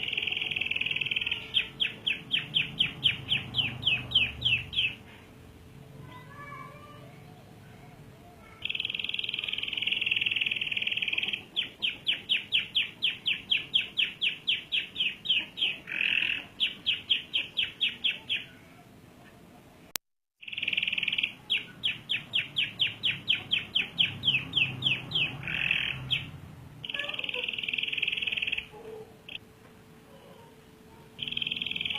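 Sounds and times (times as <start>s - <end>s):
canary singing: 0.0s - 5.3s, 8.4s - 19.7s, 20.4s - 29.4s, 30.1s - 31.9s.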